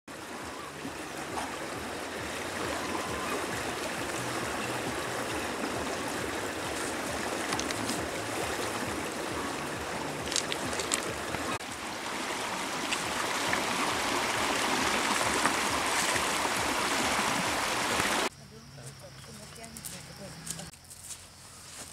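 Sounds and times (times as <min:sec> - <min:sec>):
river rushing over rocks: 0:00.1 - 0:18.3.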